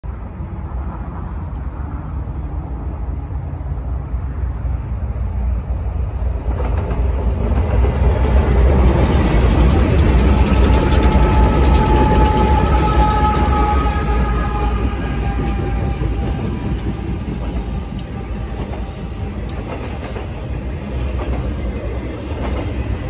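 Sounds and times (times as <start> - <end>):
diesel locomotive engine rumble: 0.0 - 23.0
train wheels on rails: 0.3 - 23.0.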